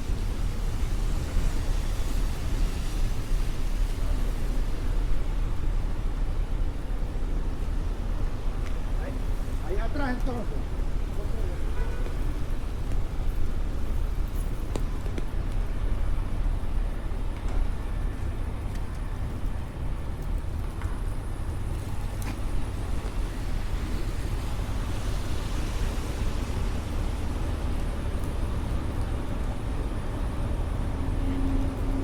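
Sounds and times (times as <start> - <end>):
cars passing on wet pavement: 0.0 - 32.0.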